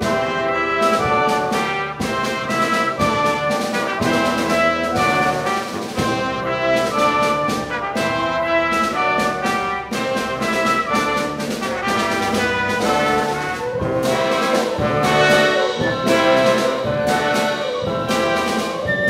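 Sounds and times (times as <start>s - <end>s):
brass chords: 0.0s - 19.0s
wind ensemble playing: 0.0s - 19.0s.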